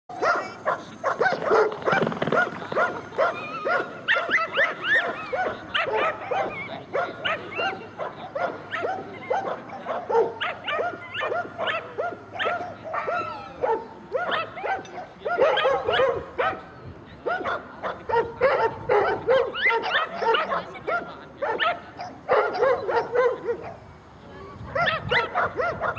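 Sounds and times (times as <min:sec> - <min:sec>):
dogs barking and yelping: 0:00.1 - 0:16.6, 0:17.2 - 0:23.8, 0:24.7 - 0:25.9.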